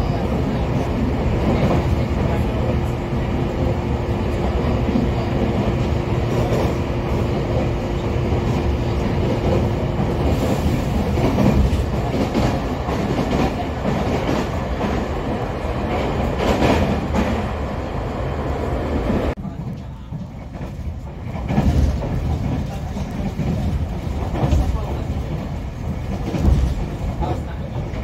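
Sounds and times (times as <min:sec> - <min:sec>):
train wheels rumbling on rails: 0:00.0 - 0:28.0
track clacks: 0:00.2 - 0:28.0.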